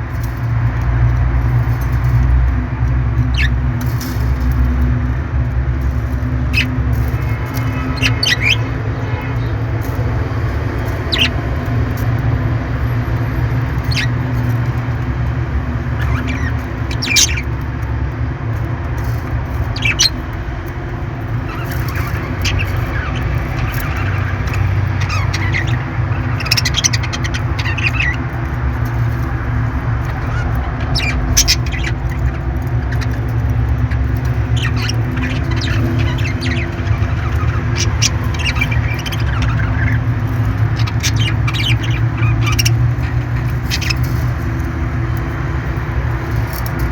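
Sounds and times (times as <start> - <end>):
parrots chirping and squawking: 0.0 - 46.9.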